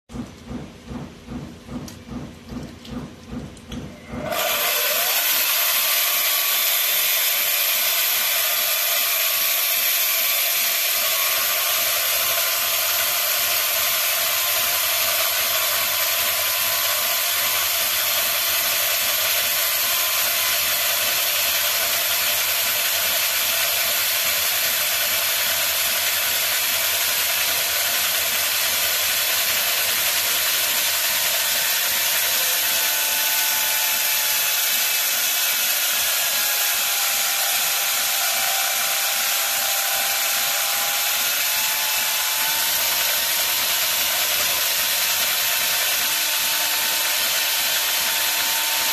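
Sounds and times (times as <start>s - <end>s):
electric chainsaw cutting masonry: 4.1s - 48.9s.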